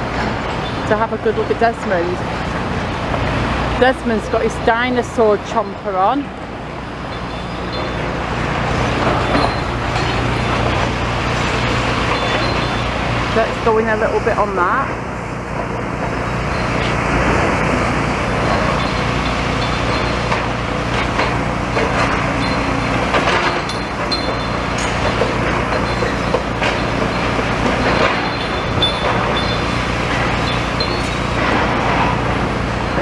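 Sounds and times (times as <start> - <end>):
excavator engine running: 0.0 - 33.0.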